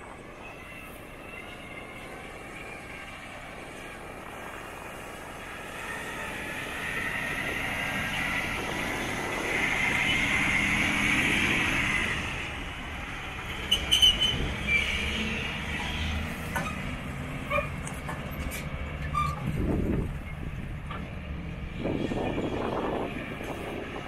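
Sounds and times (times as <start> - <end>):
heavy truck passing: 0.0 - 24.0.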